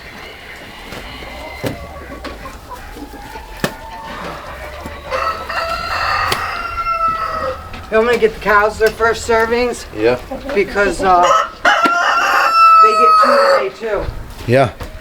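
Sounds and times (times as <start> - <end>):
rooster crowing: 0.0 - 13.8
chickens clucking: 0.0 - 15.0.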